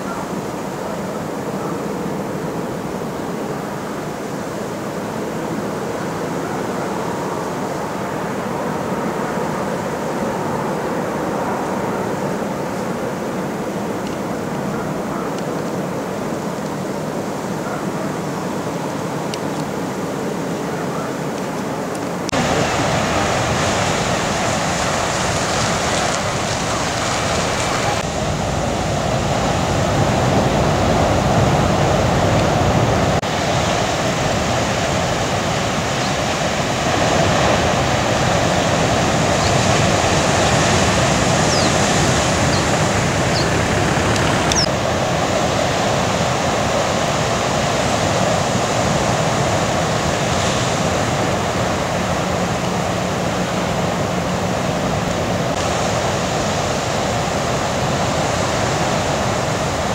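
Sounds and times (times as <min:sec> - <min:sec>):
large waves breaking: 0:00.0 - 0:59.9.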